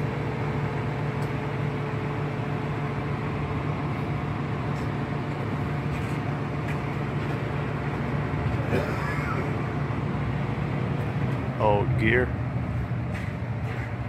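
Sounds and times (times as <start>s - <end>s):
machinery hum and rush: 0.0s - 14.0s.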